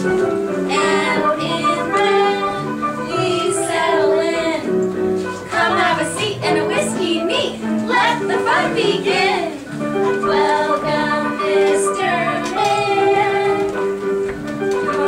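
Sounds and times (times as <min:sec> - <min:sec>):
upright piano dance tune: 0:00.0 - 0:15.0
women singing: 0:00.7 - 0:04.8, 0:05.4 - 0:14.0, 0:14.8 - 0:15.0.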